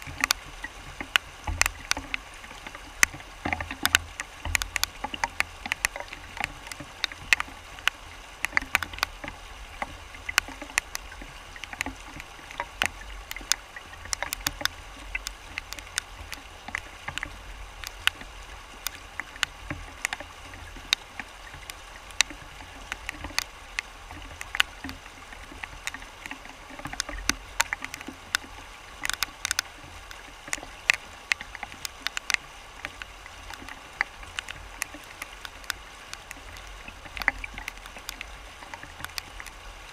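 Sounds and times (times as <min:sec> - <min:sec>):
river rapids rushing over rocks: 0:00.0 - 0:39.9
water splashes and plops: 0:00.0 - 0:39.9.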